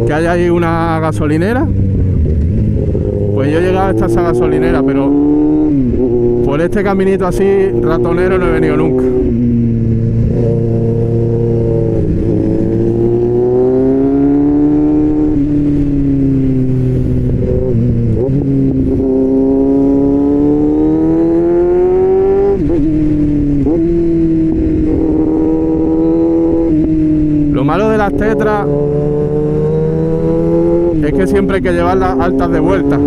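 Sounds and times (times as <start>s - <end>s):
motorcycle engine revving through gears: 0.0s - 33.0s.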